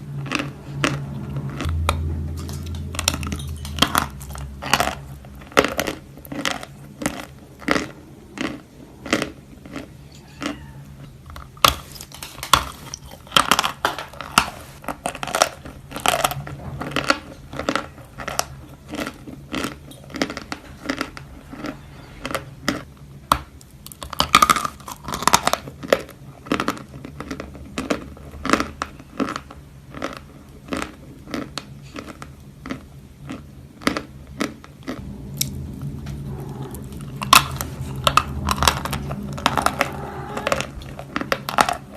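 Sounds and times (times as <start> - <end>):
chalk crunching while chewing: 0.0 - 35.6.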